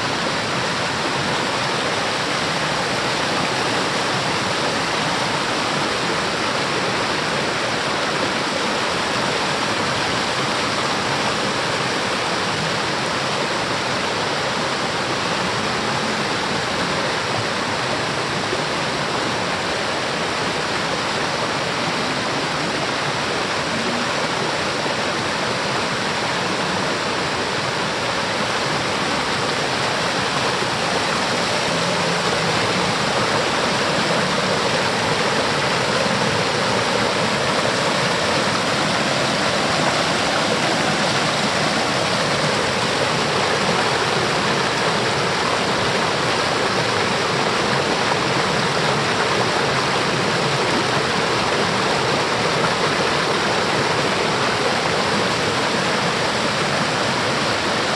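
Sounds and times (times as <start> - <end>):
mountain stream rushing over boulders: 0.0 - 57.9.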